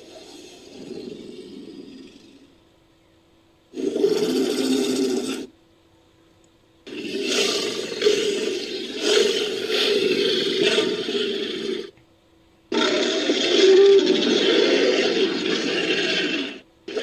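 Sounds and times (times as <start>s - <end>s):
rhinoceros roaring: 0.0s - 2.6s, 3.7s - 5.5s, 6.9s - 11.9s, 12.7s - 17.0s.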